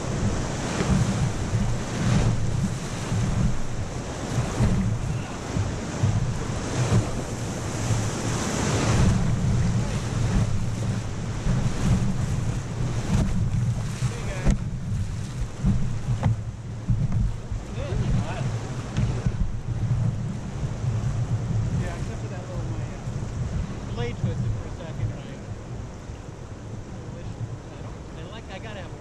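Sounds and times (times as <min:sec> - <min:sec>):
whitewater rushing and splashing: 0:00.0 - 0:29.0
wind buffeting microphone: 0:00.0 - 0:29.0.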